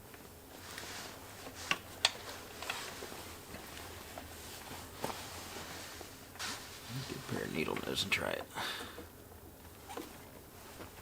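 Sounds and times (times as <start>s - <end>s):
handling noises: 0.0s - 11.0s.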